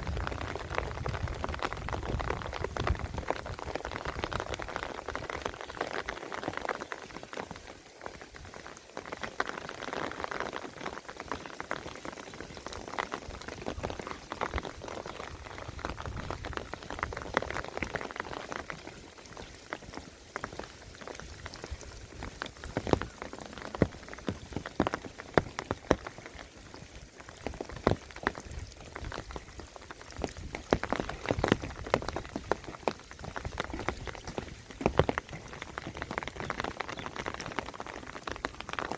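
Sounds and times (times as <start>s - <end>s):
water drops pattering and splashing: 0.0s - 38.9s.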